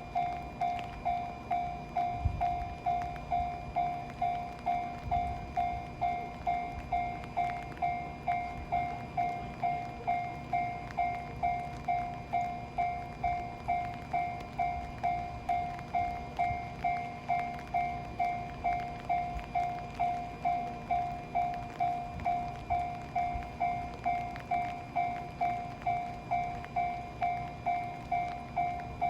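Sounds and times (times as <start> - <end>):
level crossing alarm ringing: 0.0 - 29.0
train rumbling: 0.0 - 29.0.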